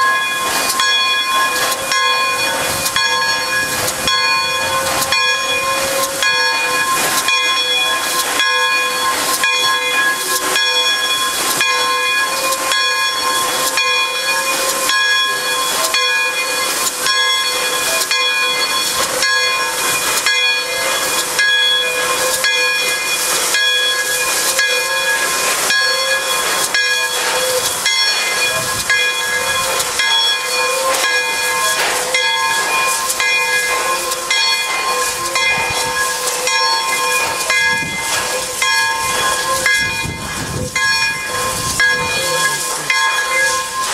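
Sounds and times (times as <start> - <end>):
locomotive exhaust beats: 0.0 - 43.9
steam locomotive hissing: 0.0 - 43.9.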